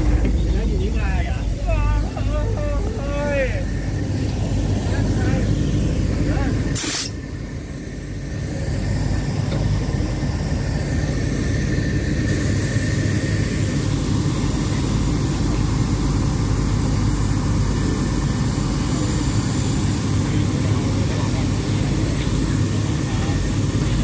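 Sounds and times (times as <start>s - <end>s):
train engine idling: 0.0s - 24.0s.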